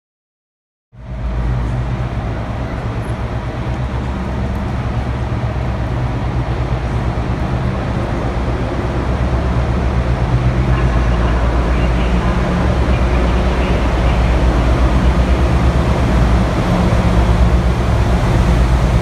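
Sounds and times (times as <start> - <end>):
diesel locomotive droning: 1.0 - 19.0.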